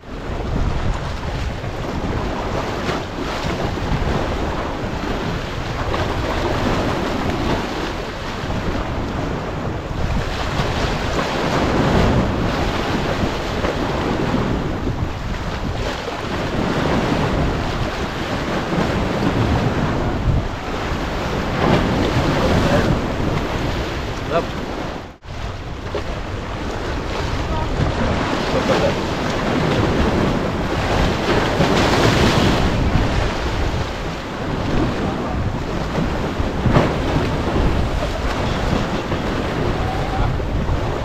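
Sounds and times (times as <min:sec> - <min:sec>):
waves breaking against rocks: 0:00.0 - 0:41.0
wind buffeting microphone: 0:00.0 - 0:41.0.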